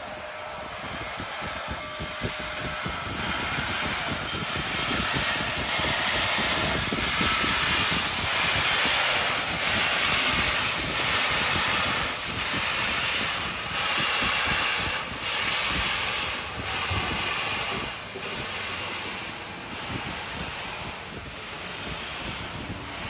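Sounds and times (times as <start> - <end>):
steam locomotive exhaust rushing: 0.0 - 23.0.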